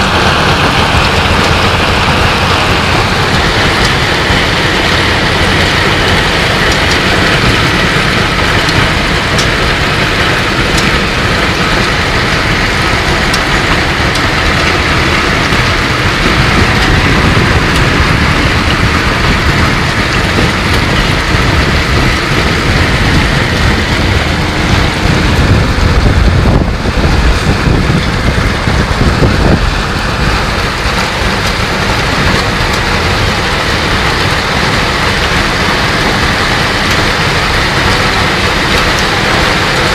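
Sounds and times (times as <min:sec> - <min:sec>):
deep rumble: 0:00.0 - 0:39.9
hail and heavy rain: 0:00.0 - 0:39.9.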